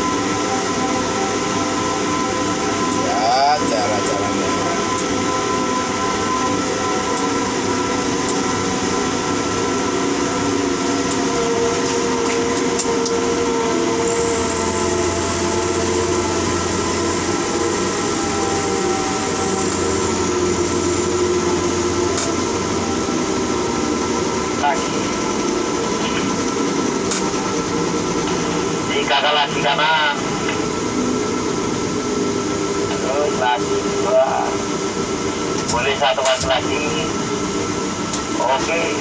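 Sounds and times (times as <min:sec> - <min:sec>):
crane motors humming: 0:03.7 - 0:38.2.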